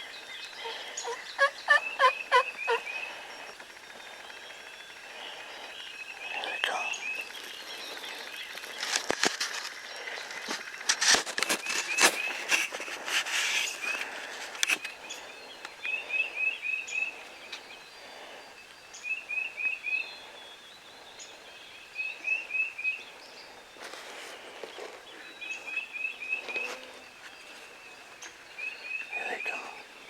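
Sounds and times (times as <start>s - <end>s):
outdoor background noise: 0.0s - 30.0s
songbird chirping: 0.0s - 30.0s.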